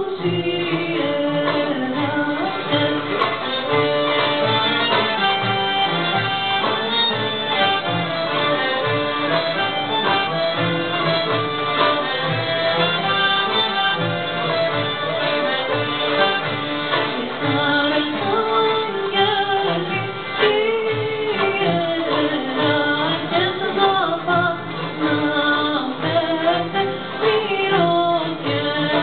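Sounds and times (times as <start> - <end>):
accordion: 0.0 - 29.0
plucked ouds and lute: 0.0 - 29.0
violin: 0.0 - 29.0
hand drum beat: 0.2 - 29.0.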